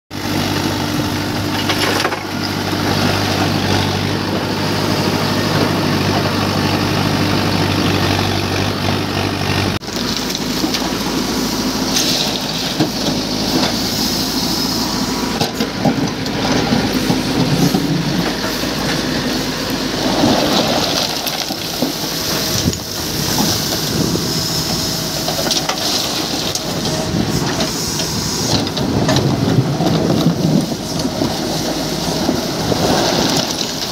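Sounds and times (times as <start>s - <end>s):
bucket working in muddy water: 0.1s - 33.9s
diesel engine running: 0.1s - 33.9s.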